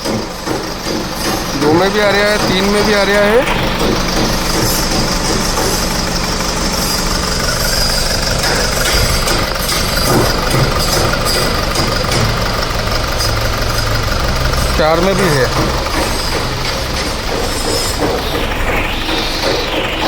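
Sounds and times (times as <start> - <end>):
diesel engine idling with misfire: 0.0 - 20.0.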